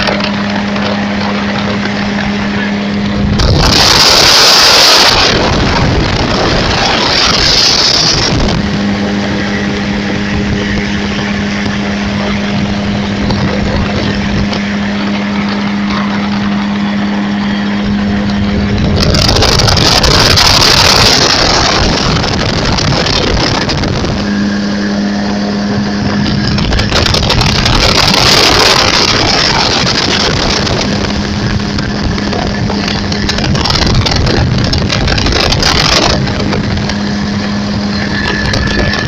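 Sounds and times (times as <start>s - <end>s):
engine humming: 0.0s - 39.0s
loud wind-like rushing: 0.0s - 39.0s.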